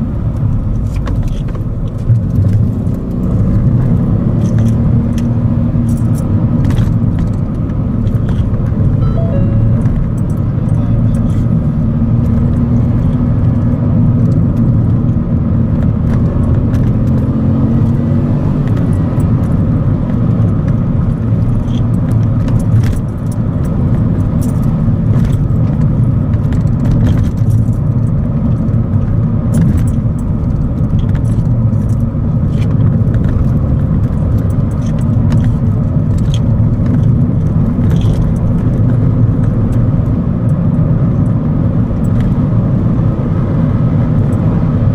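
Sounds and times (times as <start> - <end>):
car engine: 0.0 - 44.9
tyre road noise: 0.0 - 44.9.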